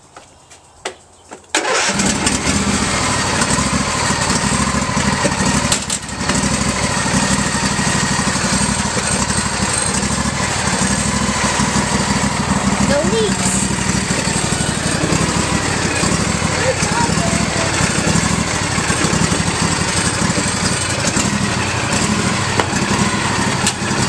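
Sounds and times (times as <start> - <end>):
mower engine starting and running: 1.5 - 24.0.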